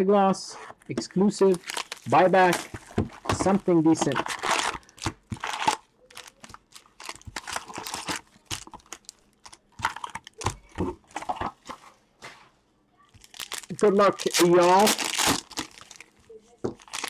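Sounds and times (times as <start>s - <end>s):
foil packs crinkling: 1.4s - 11.3s, 13.1s - 17.0s.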